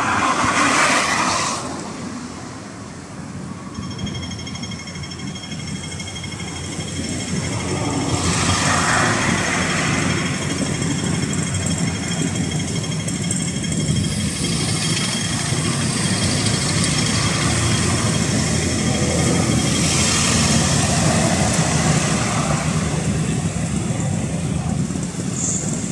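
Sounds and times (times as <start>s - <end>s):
car and truck engines passing: 0.0s - 3.7s, 6.4s - 25.9s.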